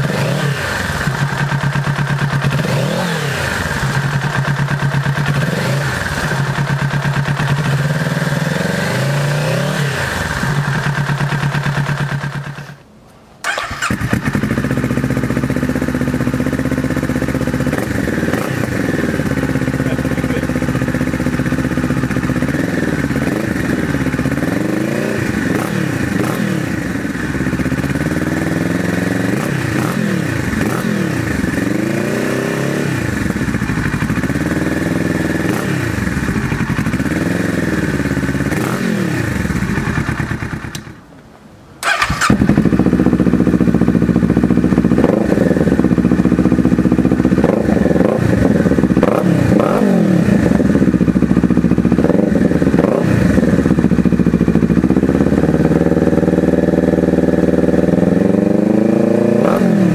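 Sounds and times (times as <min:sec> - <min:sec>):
motorcycle engine idling and revving: 0:00.0 - 0:41.1, 0:41.8 - 0:59.9.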